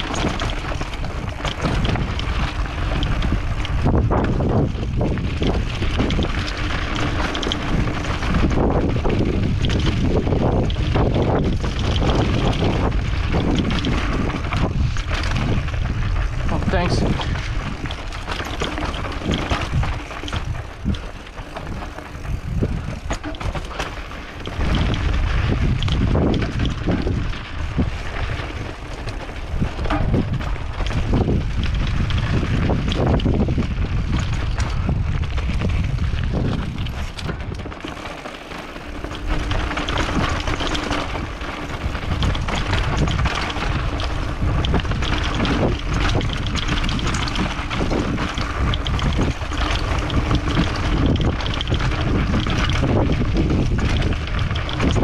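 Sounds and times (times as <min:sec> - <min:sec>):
bike rattling and knocking: 0:00.0 - 0:55.0
tyres rolling over dirt: 0:00.0 - 0:55.0
wind buffeting microphone: 0:00.0 - 0:55.0.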